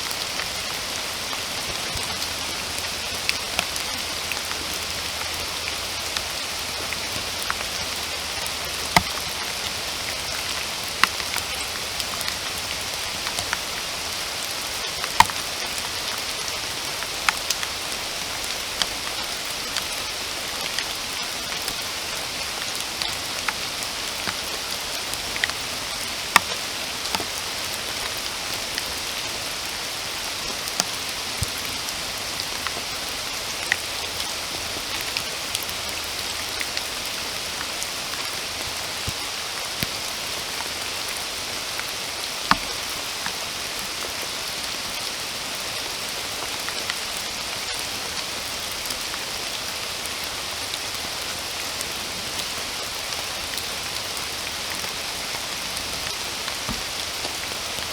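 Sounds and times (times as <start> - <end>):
rain falling in a forest: 0.0 - 57.9.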